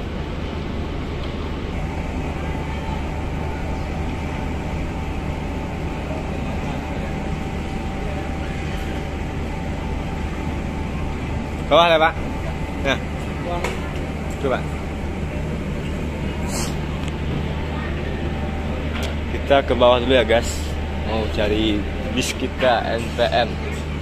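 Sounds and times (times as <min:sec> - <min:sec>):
faint steady whine: 0:00.0 - 0:24.0
low rumble of vehicle traffic: 0:00.0 - 0:24.0.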